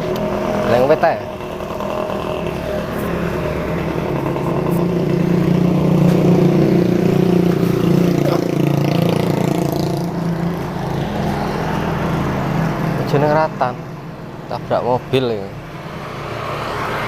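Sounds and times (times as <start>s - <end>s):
vehicle engine running: 0.0s - 16.7s.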